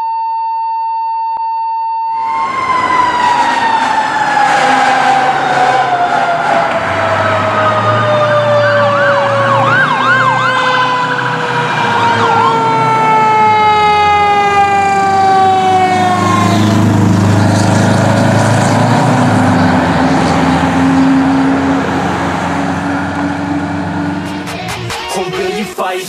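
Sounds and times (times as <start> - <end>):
siren yelp: 2.1 - 24.5
fire engine siren wailing: 2.1 - 24.7
diesel engine passing: 2.2 - 25.0.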